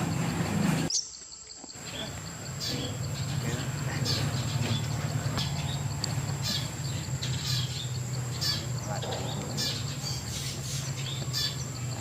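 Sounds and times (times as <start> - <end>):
birds chirping: 0.0 - 12.0
constant low hum: 0.0 - 12.0
high-pitched insect drone: 0.0 - 12.0.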